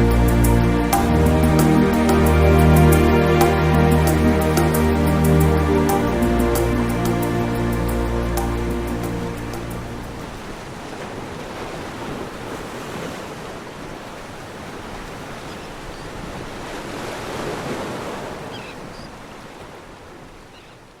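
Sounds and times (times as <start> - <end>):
sea waves washing on shore: 0.0 - 21.0.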